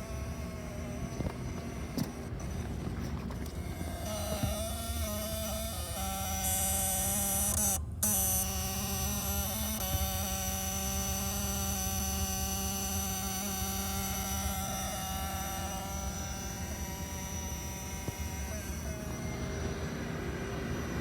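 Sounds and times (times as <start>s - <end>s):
electrical buzz: 0.0s - 21.0s.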